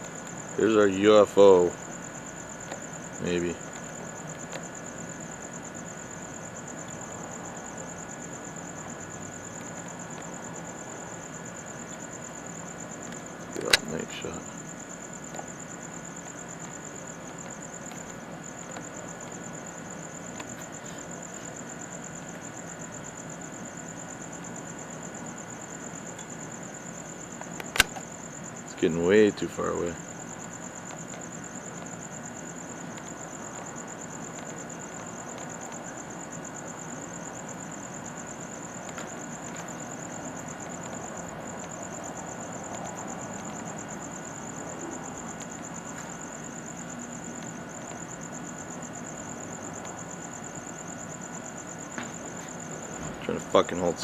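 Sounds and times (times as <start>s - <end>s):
background hiss: 0.0s - 54.0s
night insects trilling: 0.0s - 54.0s.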